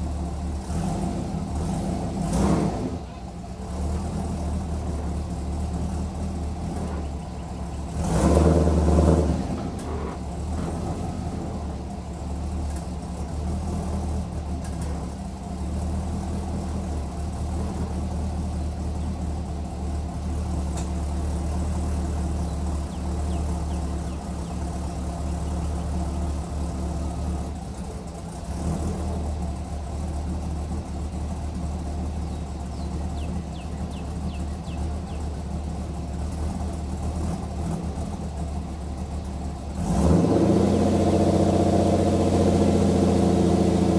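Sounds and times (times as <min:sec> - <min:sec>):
car engine exhaust idling: 0:00.0 - 0:43.9.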